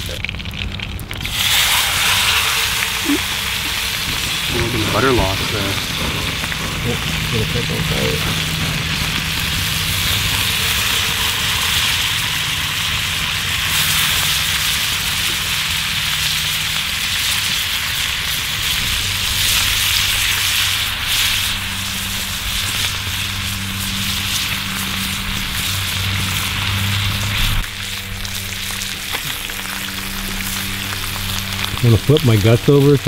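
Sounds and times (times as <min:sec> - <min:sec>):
fish frying in bubbling butter: 0:00.0 - 0:33.0.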